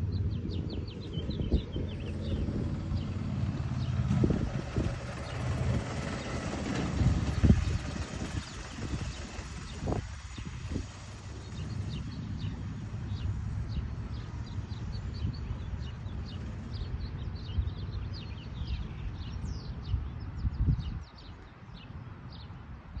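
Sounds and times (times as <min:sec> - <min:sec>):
small birds chirping: 0:00.0 - 0:23.0
wind rumble on microphone: 0:00.0 - 0:23.0.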